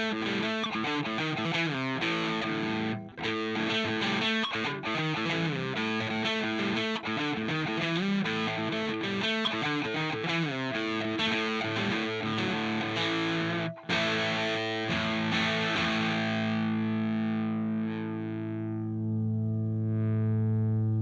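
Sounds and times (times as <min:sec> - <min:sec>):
distorted electric guitar riff: 0:00.0 - 0:21.0.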